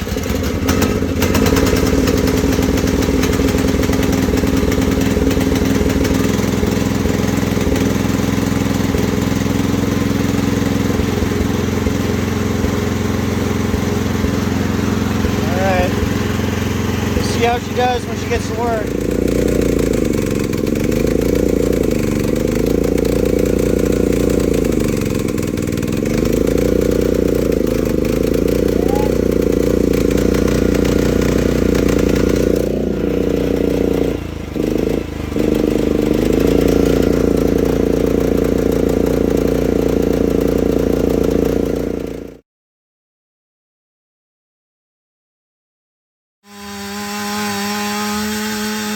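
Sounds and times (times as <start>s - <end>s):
small engine running hard: 0.0s - 42.4s, 46.5s - 48.9s.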